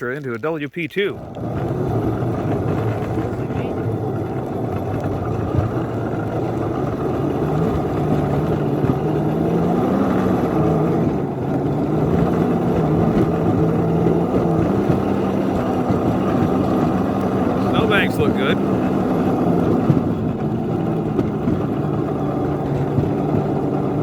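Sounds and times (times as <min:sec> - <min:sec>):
locomotive engine running under load: 0:01.0 - 0:24.0.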